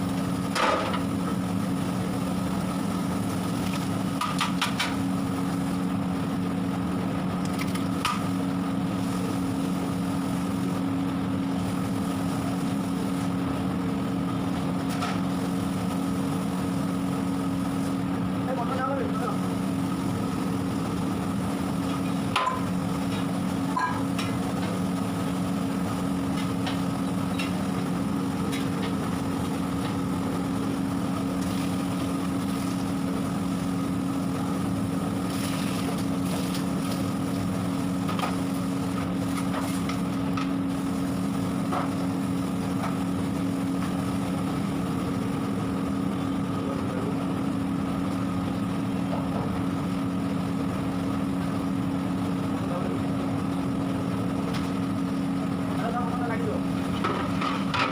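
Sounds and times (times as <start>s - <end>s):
mechanical hum: 0.0s - 57.9s.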